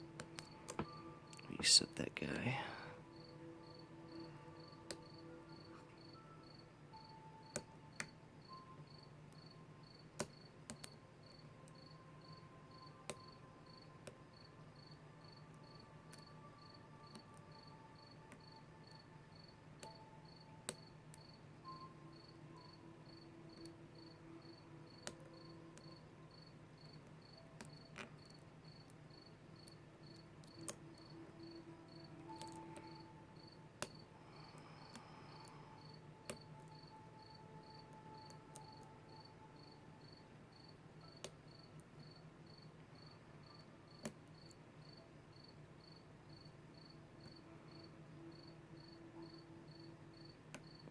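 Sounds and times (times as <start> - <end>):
cricket chirping: 0.0 - 50.9.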